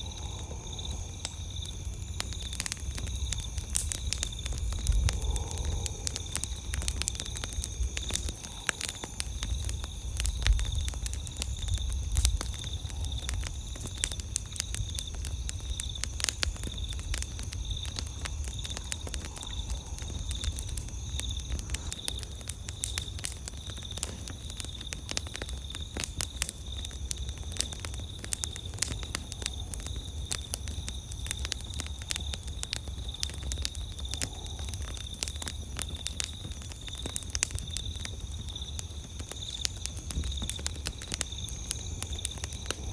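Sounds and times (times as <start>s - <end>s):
campfire crackling and popping: 0.0s - 42.9s
insect trill: 0.0s - 42.9s.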